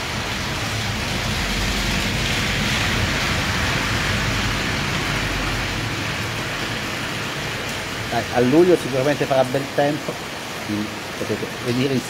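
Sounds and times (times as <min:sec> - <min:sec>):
rain falling on a street: 0:00.0 - 0:12.0.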